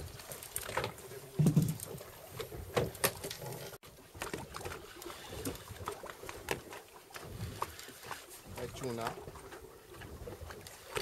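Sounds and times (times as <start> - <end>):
wind and water hiss: 0.0 - 11.0
knocks and clicks on boat: 0.2 - 11.0.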